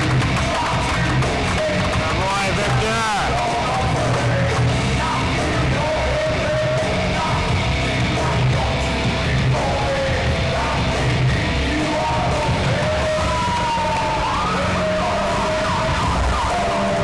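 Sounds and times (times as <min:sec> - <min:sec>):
loud rock music with singer: 0:00.0 - 0:17.0.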